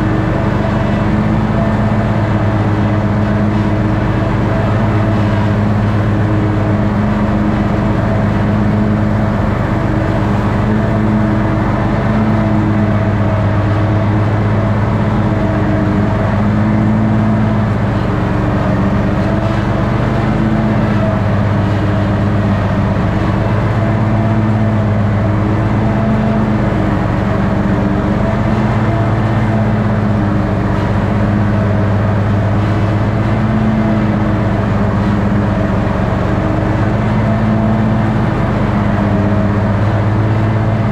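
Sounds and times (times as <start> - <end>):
ride-on lawn mower engine: 0.0 - 40.9.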